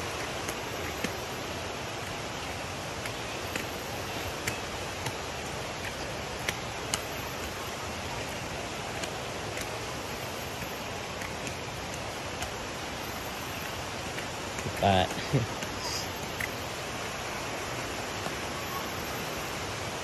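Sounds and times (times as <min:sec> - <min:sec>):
footsteps on concrete steps: 0:00.0 - 0:19.6
flowing water rushing: 0:00.0 - 0:20.0.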